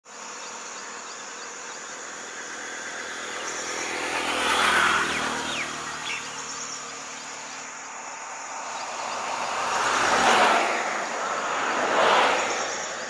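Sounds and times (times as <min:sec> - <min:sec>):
high buzz of insects: 0:00.1 - 0:13.0
vehicle passing: 0:01.8 - 0:13.0.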